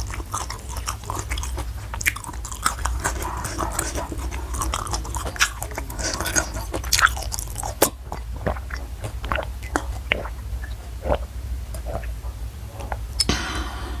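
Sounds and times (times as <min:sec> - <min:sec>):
crunchy food chewing: 0:00.0 - 0:13.3.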